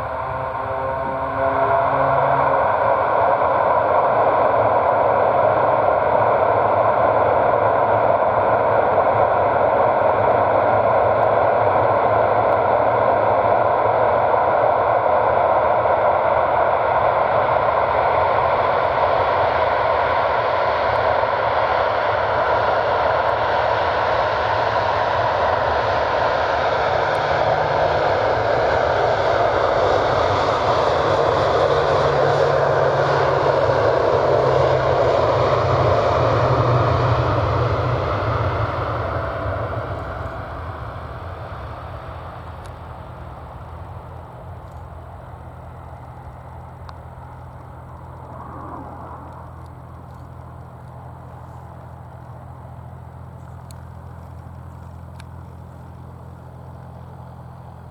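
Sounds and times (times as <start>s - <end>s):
turboprop engines droning: 0.0s - 57.9s.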